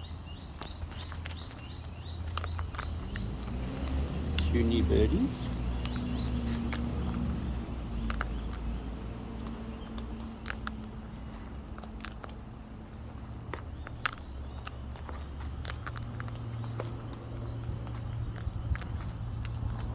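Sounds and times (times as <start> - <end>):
parrots cracking seed: 0.0 - 19.9.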